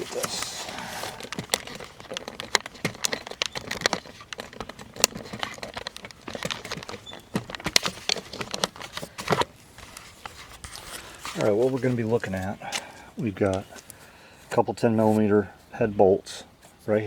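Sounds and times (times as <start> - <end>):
hand tools and screws clinking: 0.0 - 14.0.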